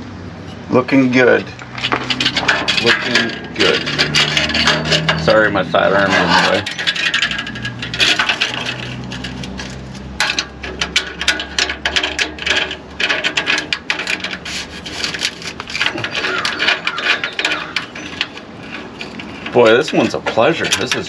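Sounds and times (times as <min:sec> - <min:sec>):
low steady hum: 0:00.0 - 0:21.0
metal parts scraping and clinking: 0:00.3 - 0:21.0.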